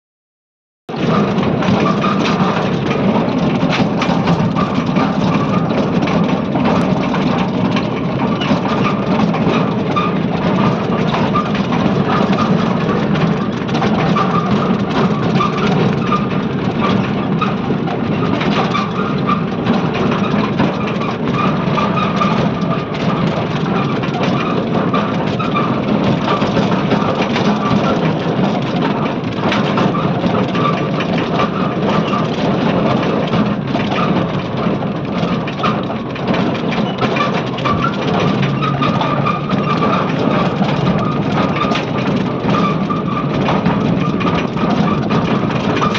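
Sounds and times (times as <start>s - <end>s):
dense rattling noise: 0.9s - 45.9s
vehicle engine drone: 0.9s - 45.9s.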